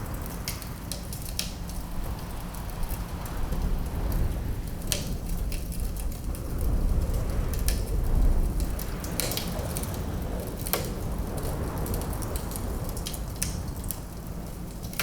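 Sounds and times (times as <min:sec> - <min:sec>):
low rumble of wind: 0:00.0 - 0:15.0
wood fire crackling: 0:00.0 - 0:15.0.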